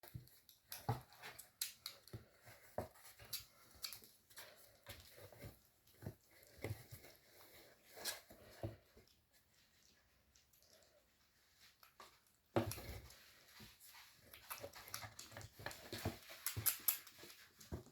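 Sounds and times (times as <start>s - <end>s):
soft clicks and rustles: 0.0s - 17.9s.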